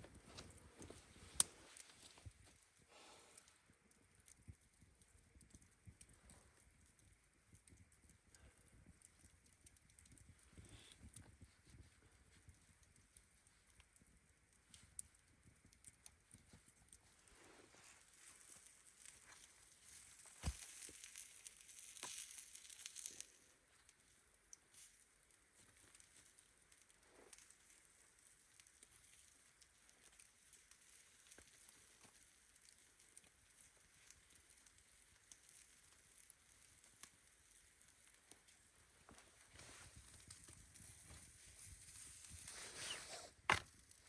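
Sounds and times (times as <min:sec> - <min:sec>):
faint crackling and rustling: 0:00.0 - 0:44.0.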